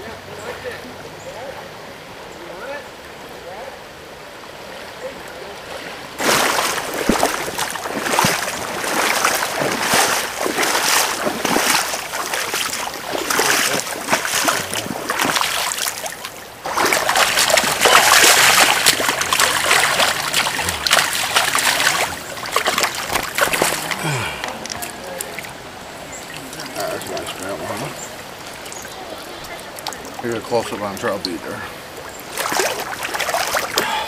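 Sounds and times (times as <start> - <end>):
river current rushing: 0.0 - 34.0
splashing in shallow water: 5.1 - 34.0.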